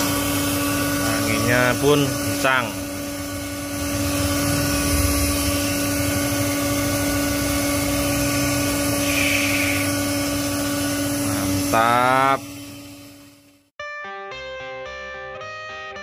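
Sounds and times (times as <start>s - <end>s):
blower motor hum: 0.0s - 13.7s.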